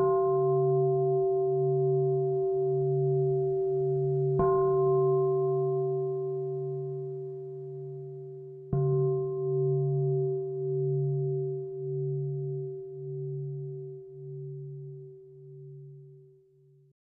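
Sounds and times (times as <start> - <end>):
singing bowl ringing: 0.0 - 16.1.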